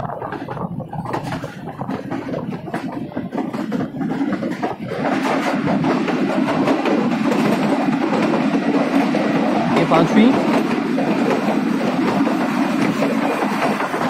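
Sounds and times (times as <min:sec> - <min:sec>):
train wheels clattering on track: 0:00.0 - 0:14.0.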